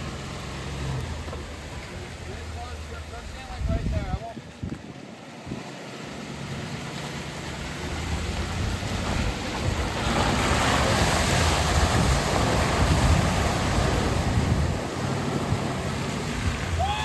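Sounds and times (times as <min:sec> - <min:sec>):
tyres splashing through mud: 0:00.0 - 0:03.7, 0:04.8 - 0:17.0
truck engine rumble: 0:00.0 - 0:17.0.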